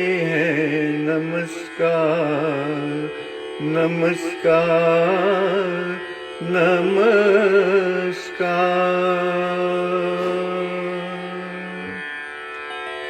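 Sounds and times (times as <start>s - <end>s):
person singing with vibrato: 0.0s - 12.2s.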